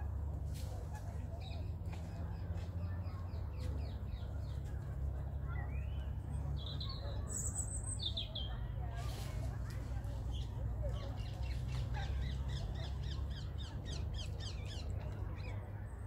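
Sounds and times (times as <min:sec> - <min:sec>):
songbirds singing: 0:00.1 - 0:16.0.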